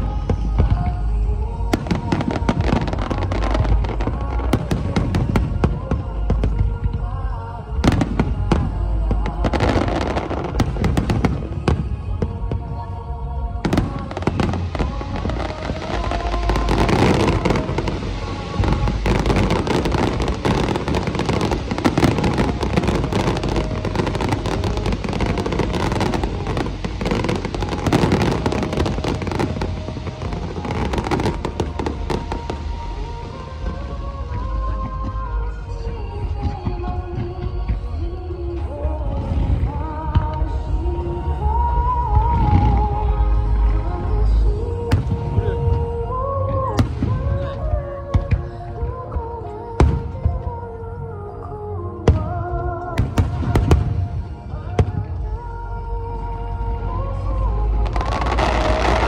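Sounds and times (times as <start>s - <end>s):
fireworks bursting and crackling: 0.0s - 12.8s, 13.6s - 50.5s, 52.1s - 55.6s, 56.6s - 59.0s
music: 0.0s - 59.0s.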